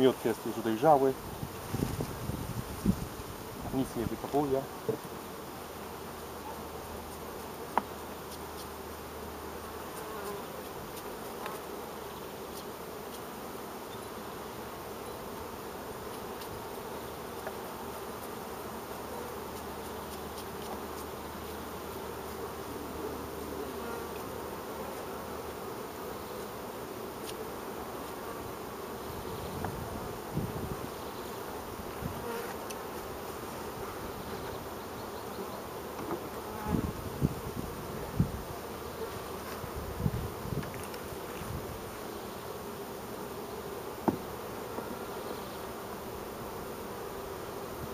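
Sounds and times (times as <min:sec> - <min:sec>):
honey bees buzzing: 0:00.0 - 0:47.9.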